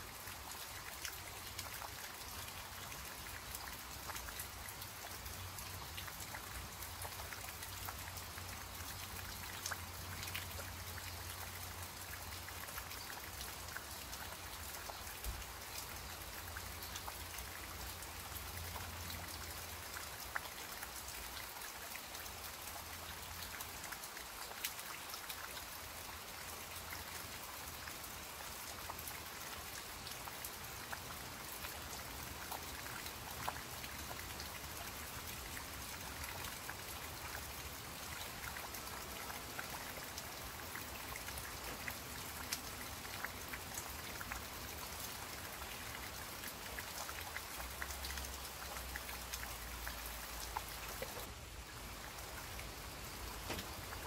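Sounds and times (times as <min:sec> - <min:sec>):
rain hiss on foliage: 0:00.0 - 0:54.0
raindrops pattering: 0:00.0 - 0:54.0.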